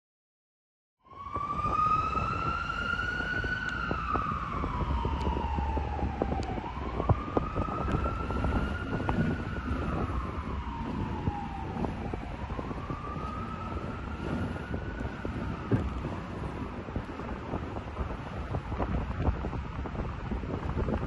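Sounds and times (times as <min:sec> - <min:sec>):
emergency siren wailing: 0:01.0 - 0:21.0
wind rumble on microphone: 0:01.0 - 0:21.0.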